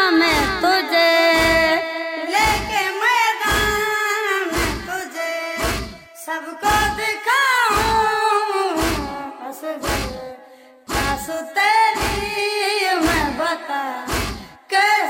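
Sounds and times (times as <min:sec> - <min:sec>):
person singing a lament: 0:00.0 - 0:15.0
deep rhythmic thumps: 0:00.2 - 0:10.3, 0:10.9 - 0:13.4, 0:14.1 - 0:14.7.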